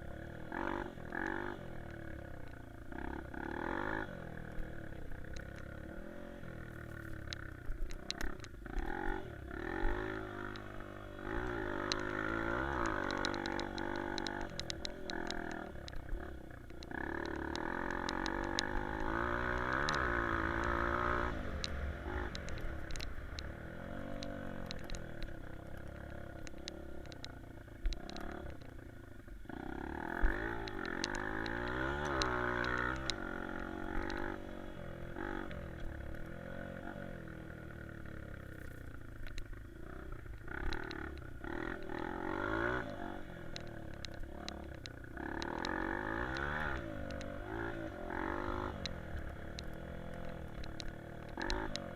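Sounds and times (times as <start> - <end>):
motorbike engine revving: 0.0 - 51.9.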